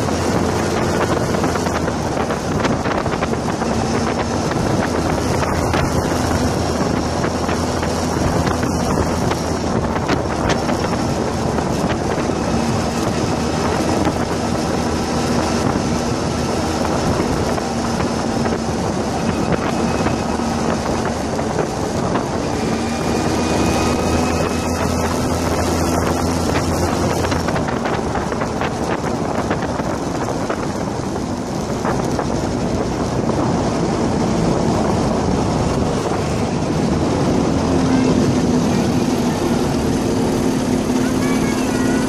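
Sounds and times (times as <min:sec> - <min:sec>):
go-kart engine running: 0:00.0 - 0:42.0
tyre and road noise: 0:00.0 - 0:42.0
wind buffeting microphone: 0:00.0 - 0:42.0.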